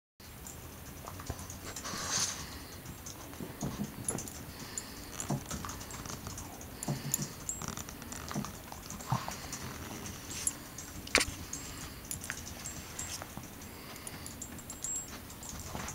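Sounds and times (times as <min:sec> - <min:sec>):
dog sniffing: 0:01.6 - 0:15.9.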